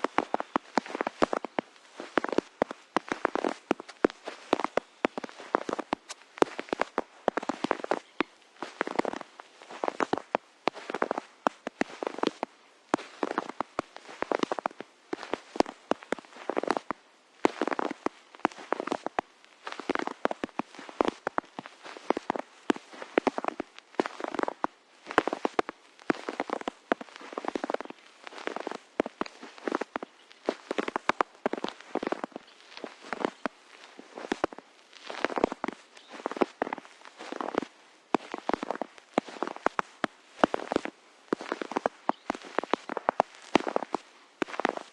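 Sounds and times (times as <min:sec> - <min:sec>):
footsteps crunching in snow: 0:00.0 - 0:44.9.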